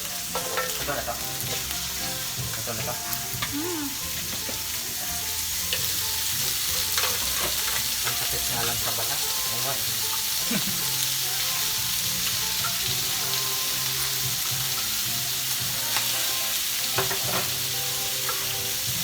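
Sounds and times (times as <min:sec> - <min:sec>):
pork belly sizzling on grill: 0:00.0 - 0:19.0.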